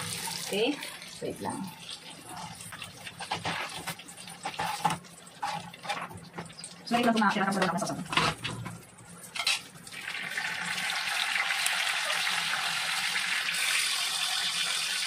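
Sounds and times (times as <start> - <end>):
tofu sizzling in hot oil: 0.0 - 15.0.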